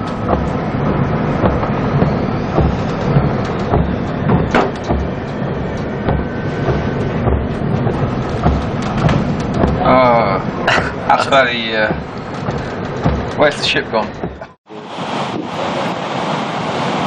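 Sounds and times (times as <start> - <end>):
low thumps: 0.0 - 14.6
sharp knocks: 0.0 - 14.6
wind and spray roaring: 0.0 - 17.0.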